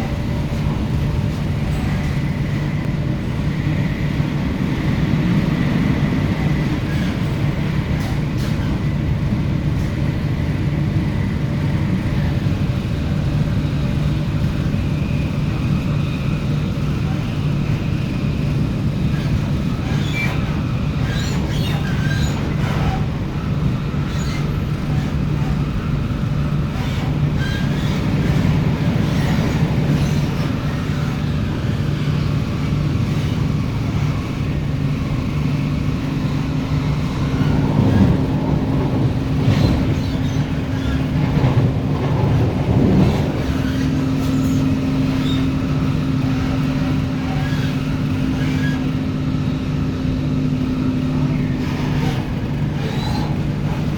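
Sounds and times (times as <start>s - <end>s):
train wheels rumbling: 0.0s - 53.9s.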